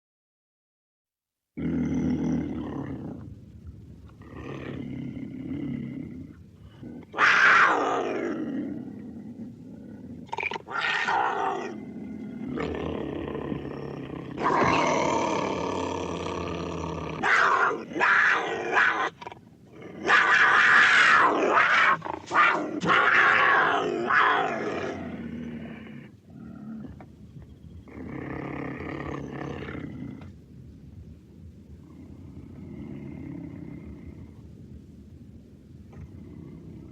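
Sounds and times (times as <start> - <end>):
cougar growls and roars: 1.6 - 30.4, 31.8 - 34.4, 35.9 - 36.9.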